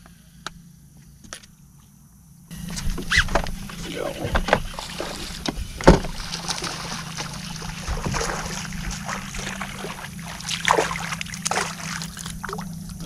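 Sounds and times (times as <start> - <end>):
electric trolling motor hum: 2.0 - 13.0.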